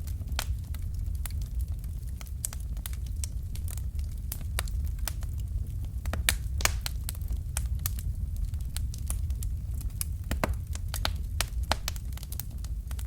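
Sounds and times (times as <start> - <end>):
fire crackling and popping: 0.0 - 13.0
low fire rumble: 0.0 - 13.0.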